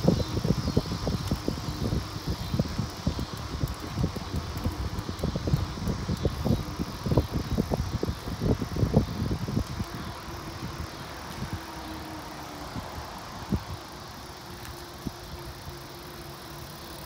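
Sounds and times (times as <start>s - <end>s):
bicycles rolling on pavement: 0.0s - 17.0s.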